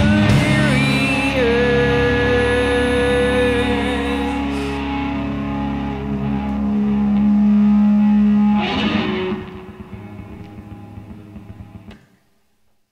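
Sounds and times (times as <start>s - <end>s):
distorted guitar chord: 0.0s - 12.0s.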